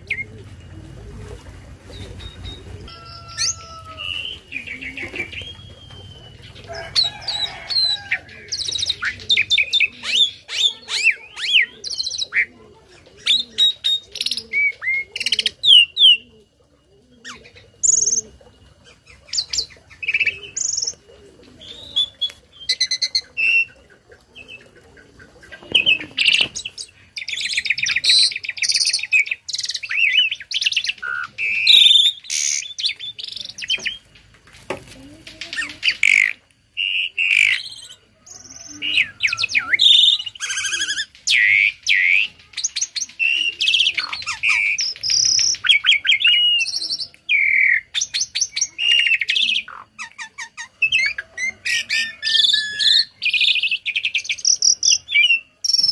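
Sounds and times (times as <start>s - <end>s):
starling singing: 1.9s - 16.6s, 17.2s - 34.1s, 35.4s - 55.9s.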